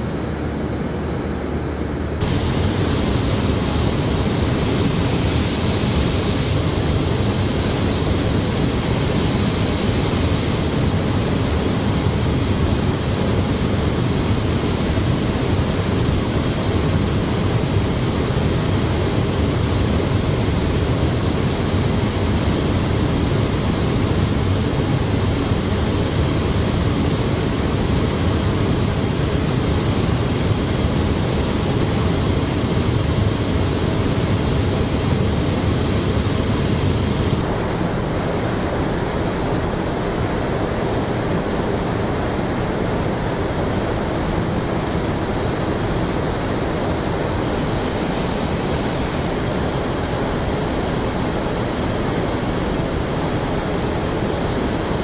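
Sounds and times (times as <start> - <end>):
rushing air in paint booth: 2.1 - 55.0.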